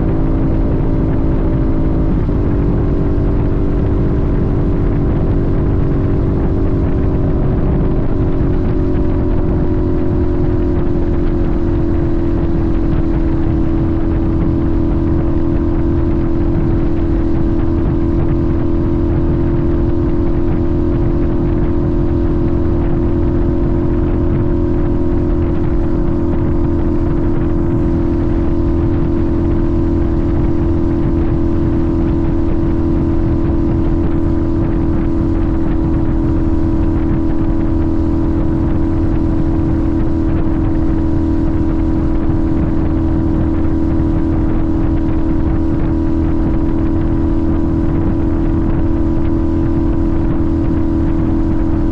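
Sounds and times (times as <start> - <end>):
motorcycle engine cruising: 0.0 - 51.9
road noise rushing: 0.0 - 51.9.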